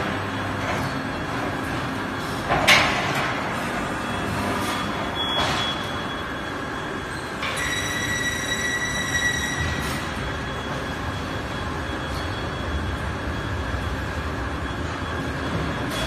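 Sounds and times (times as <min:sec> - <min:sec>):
production line machinery running: 0:00.0 - 0:16.0.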